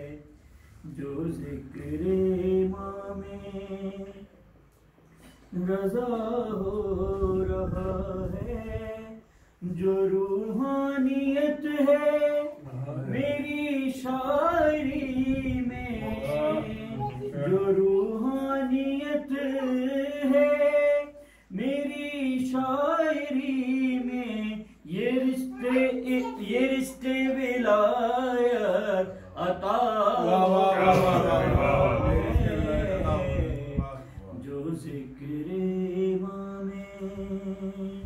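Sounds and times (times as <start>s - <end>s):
man singing unaccompanied: 0.0s - 4.5s, 5.5s - 38.0s.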